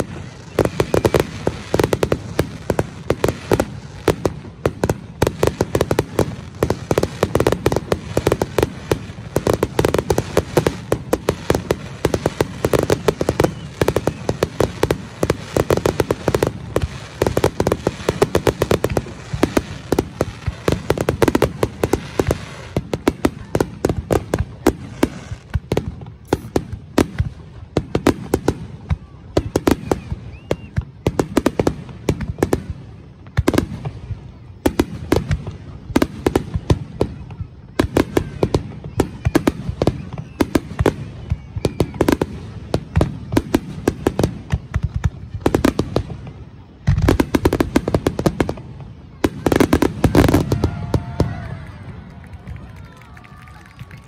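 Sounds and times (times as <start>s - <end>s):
fireworks cracking and banging: 0.0s - 54.0s.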